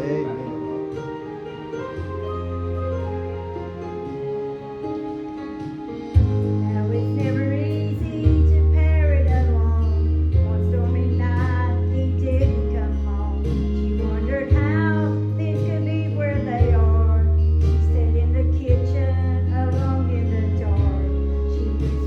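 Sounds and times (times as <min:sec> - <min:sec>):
music accompaniment with bass notes: 0:00.0 - 0:22.0.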